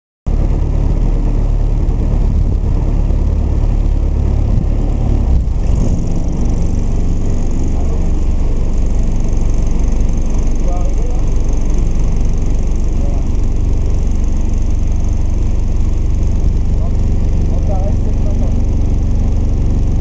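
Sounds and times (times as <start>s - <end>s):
boat engine rumbling: 0.3s - 20.0s.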